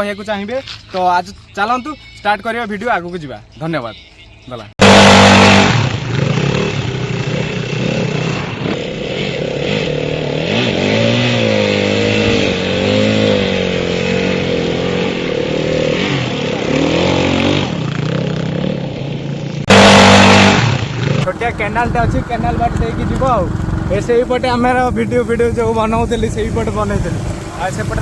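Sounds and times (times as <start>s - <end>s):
motorcycle engine revving: 4.8s - 28.0s.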